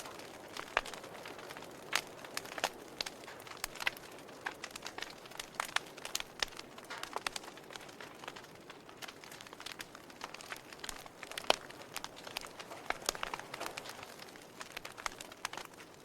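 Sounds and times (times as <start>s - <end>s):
logs crackling and popping: 0.0s - 16.0s.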